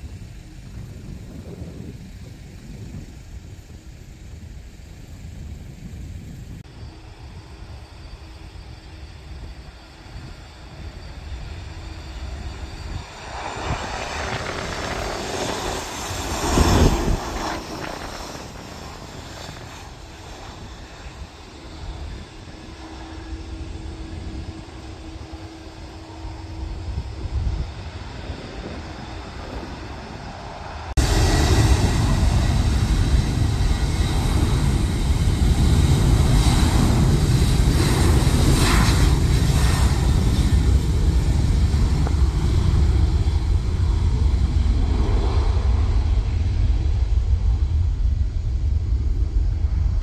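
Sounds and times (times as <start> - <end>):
faint jet rumble: 0.0 - 50.0
jet engines rumbling with whine: 0.0 - 50.0.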